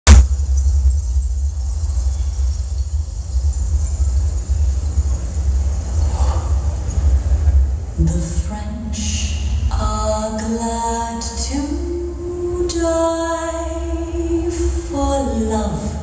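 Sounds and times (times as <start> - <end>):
deep bass rumble: 0.0 - 16.0.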